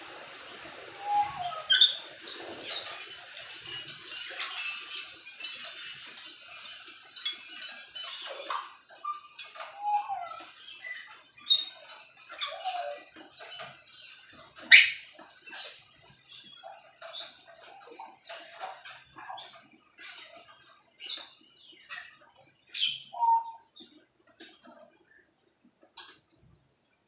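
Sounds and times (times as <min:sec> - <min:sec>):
falling bird calls: 0:00.9 - 0:06.8, 0:07.5 - 0:13.8, 0:14.5 - 0:25.4
birds chirping and whistling: 0:00.9 - 0:24.0.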